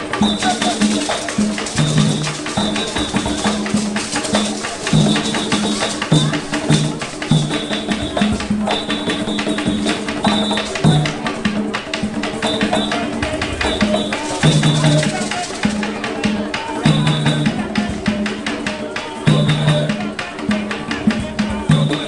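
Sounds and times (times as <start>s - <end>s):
hand drums playing fast rhythm: 0.0s - 22.0s.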